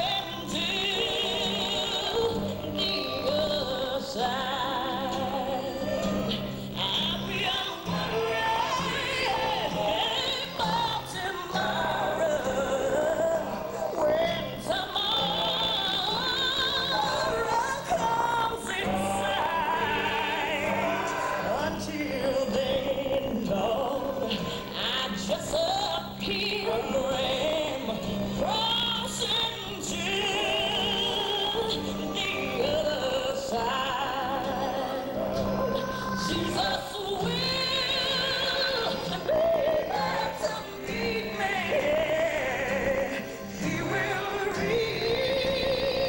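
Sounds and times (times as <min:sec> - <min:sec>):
operatic singing with vibrato: 0:00.0 - 0:46.0.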